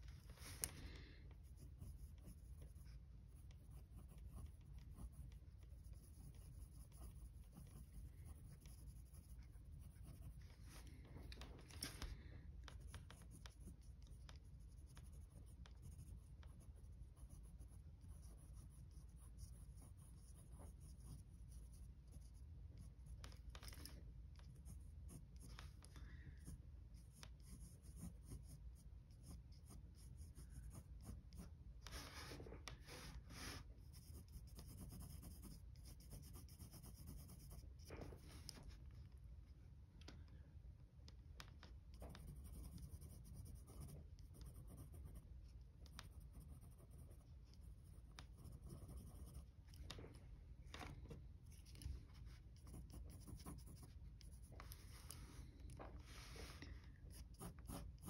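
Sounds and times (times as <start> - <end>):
pencil scratching on paper: 0.1 - 38.8, 41.9 - 50.1, 51.4 - 58.0.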